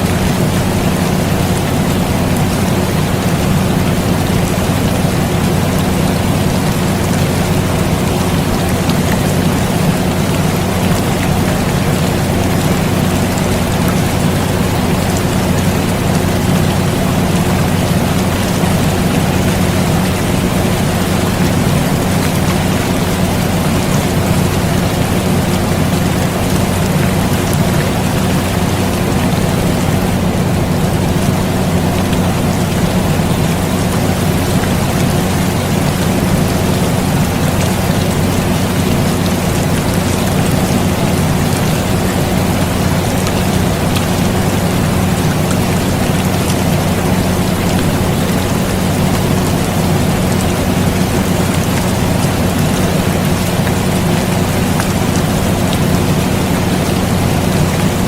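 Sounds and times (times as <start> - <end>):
air conditioner hum: 0.0 - 58.0
continuous rain: 0.0 - 58.0.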